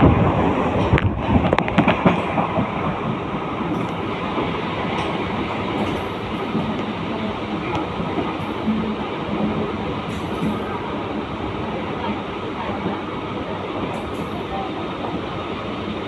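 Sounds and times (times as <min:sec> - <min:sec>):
electric train rumbling on track: 0:00.0 - 0:16.0.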